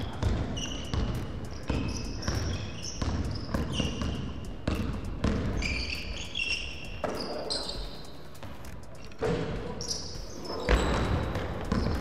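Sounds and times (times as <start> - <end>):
basketball bouncing on wooden floor: 0.0 - 12.0
sneakers squeaking: 0.0 - 12.0.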